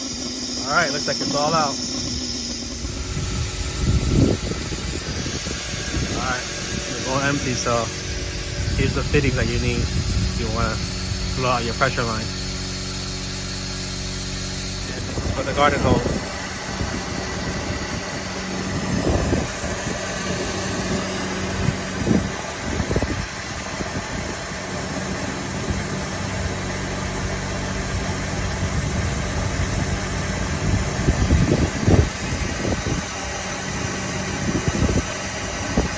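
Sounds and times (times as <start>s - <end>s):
machine humming: 0.0s - 35.9s.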